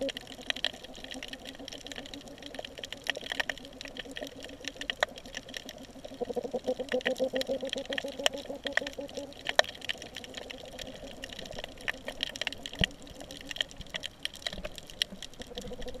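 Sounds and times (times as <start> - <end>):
underwater clicks crackling: 0.0 - 16.0.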